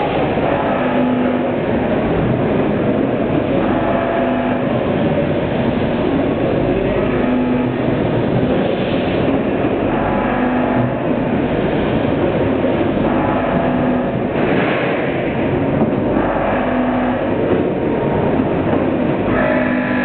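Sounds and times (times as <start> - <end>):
low machine hum: 0.0 - 20.0
weighing machine rumbling: 0.0 - 20.0.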